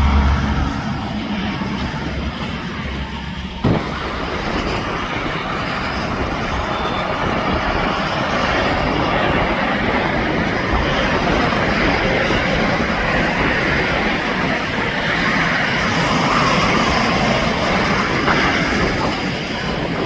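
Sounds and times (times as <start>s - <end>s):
highway traffic passing: 0.0s - 20.0s.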